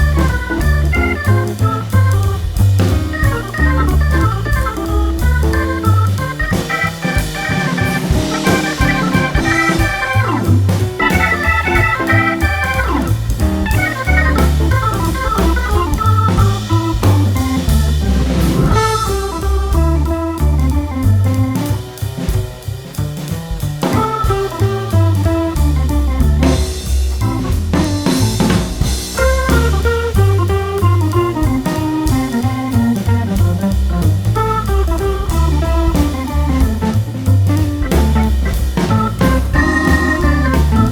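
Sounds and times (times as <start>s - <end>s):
electric organ music with beat: 0.0s - 40.9s.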